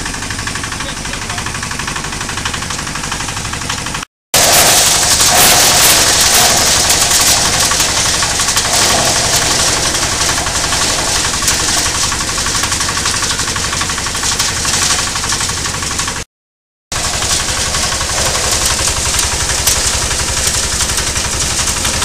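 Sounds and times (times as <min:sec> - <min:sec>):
diesel engine clatter: 0:00.0 - 0:16.3, 0:16.9 - 0:22.0
shredder chopping plants: 0:00.0 - 0:16.3, 0:16.9 - 0:22.0.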